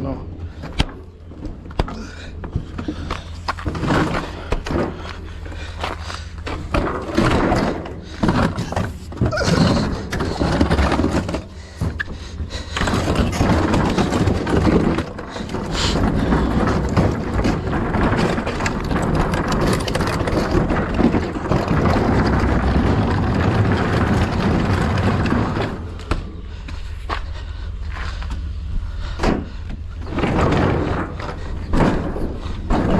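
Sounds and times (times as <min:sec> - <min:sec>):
truck engine and road rumble: 0:00.0 - 0:32.9
knocks and clatter: 0:00.5 - 0:32.9.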